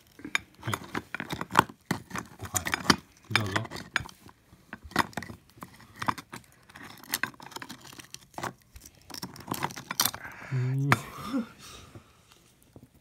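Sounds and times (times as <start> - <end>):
oyster shells clicking and scraping: 0.0 - 11.1.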